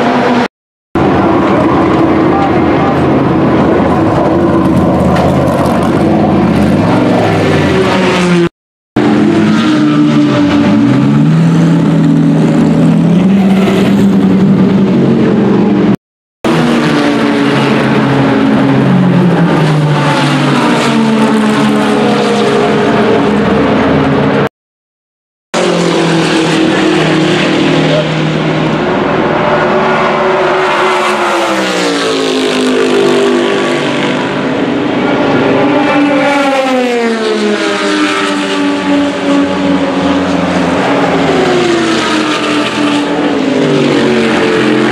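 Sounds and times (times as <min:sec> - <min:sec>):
race car engines revving: 0:00.0 - 0:24.5, 0:25.6 - 0:44.9
race cars passing at speed: 0:00.0 - 0:24.5, 0:25.6 - 0:44.9.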